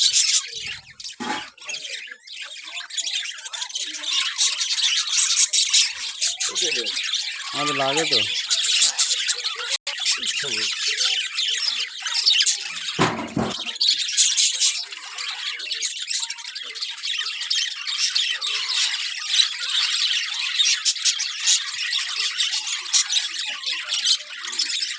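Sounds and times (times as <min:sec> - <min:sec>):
flock of birds squawking: 0:00.0 - 0:24.9.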